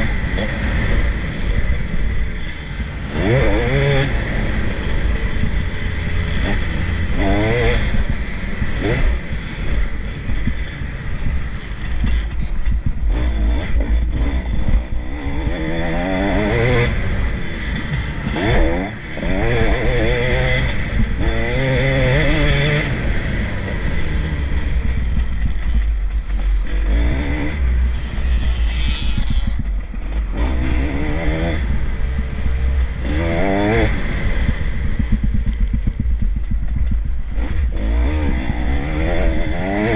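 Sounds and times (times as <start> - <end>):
constant low rumble: 0.0 - 39.9
motocross bike engines revving: 0.0 - 39.9.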